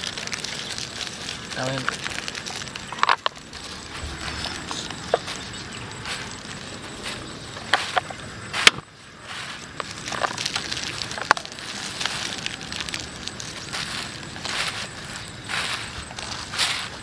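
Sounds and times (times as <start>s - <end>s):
plastic bag crinkling: 0.0s - 8.7s, 9.3s - 17.0s.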